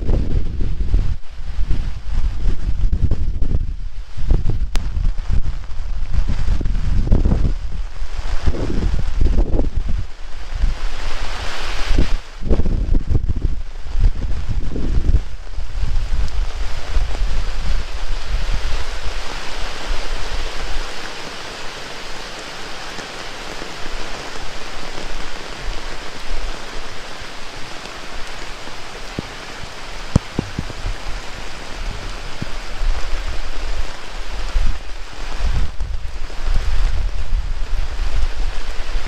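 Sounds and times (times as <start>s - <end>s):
heavy rain: 0.0s - 39.0s
wind rumbling on microphone: 0.0s - 39.0s.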